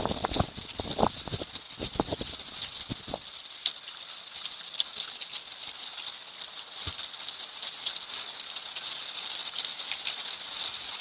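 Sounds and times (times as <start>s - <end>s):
raindrops pattering on hard surfaces: 0.0s - 11.0s
steady rain hiss: 0.0s - 11.0s.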